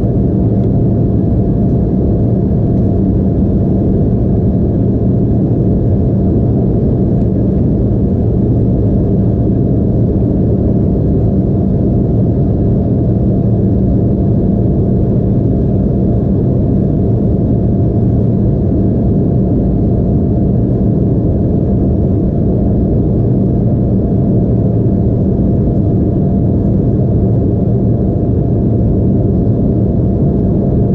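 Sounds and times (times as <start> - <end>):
jet cabin engine drone: 0.0 - 30.9.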